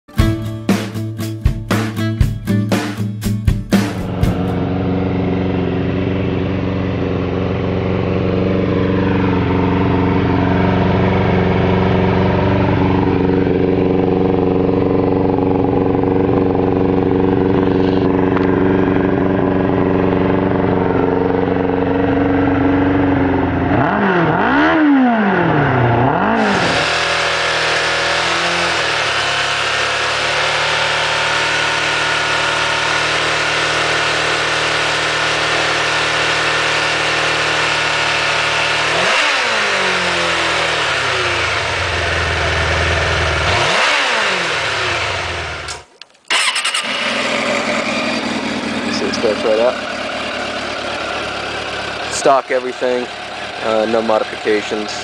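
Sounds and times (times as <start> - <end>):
motorcycle engine idling: 3.2 - 23.9, 26.3 - 55.0
motorcycle engine revving: 3.7 - 55.0.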